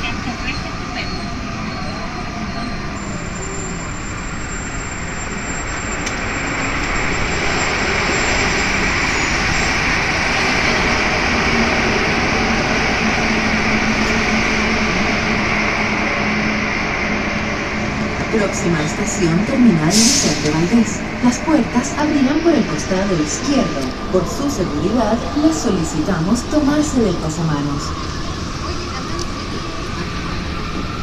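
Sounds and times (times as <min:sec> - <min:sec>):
passing train: 0:00.0 - 0:31.0
train interior running noise: 0:00.0 - 0:31.0.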